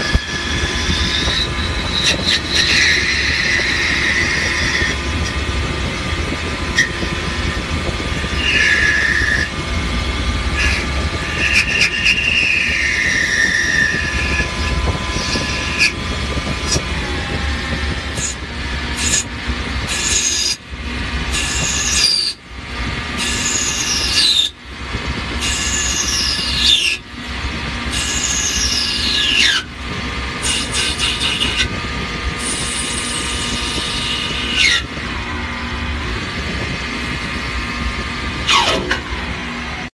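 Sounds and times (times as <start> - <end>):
metal cutting squeals: 0.0 - 9.6, 10.5 - 20.6, 21.3 - 22.4, 23.1 - 24.6, 25.3 - 27.1, 27.9 - 29.8, 30.4 - 31.8, 32.4 - 37.5, 38.4 - 39.9
machine hum: 0.0 - 39.9.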